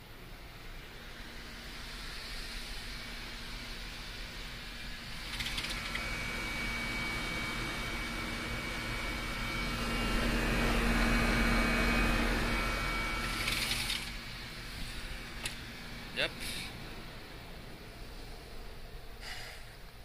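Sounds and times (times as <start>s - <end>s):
air conditioner fan rush: 0.0s - 20.0s
low hum: 0.0s - 20.0s
thin high whine: 0.0s - 20.0s.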